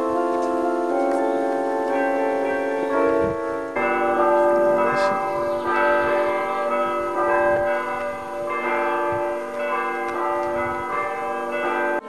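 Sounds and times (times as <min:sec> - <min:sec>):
bells ringing: 0:00.0 - 0:12.0.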